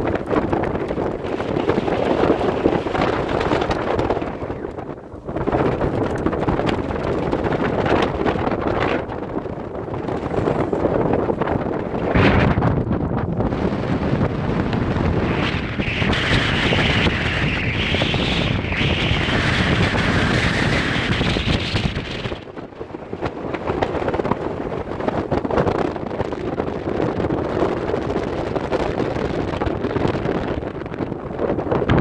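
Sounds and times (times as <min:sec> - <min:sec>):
wind buffeting the microphone: 0:00.0 - 0:32.0.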